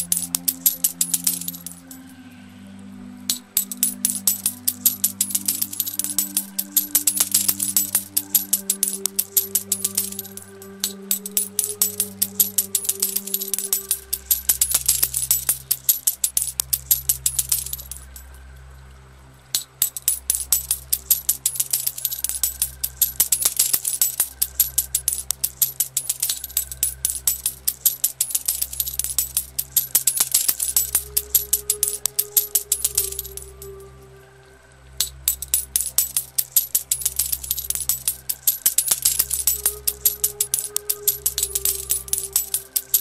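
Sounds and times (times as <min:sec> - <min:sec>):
coins pouring and clinking: 0:00.0 - 0:02.0, 0:03.3 - 0:18.2, 0:19.6 - 0:33.8, 0:35.0 - 0:43.0
low music drone: 0:00.0 - 0:43.0.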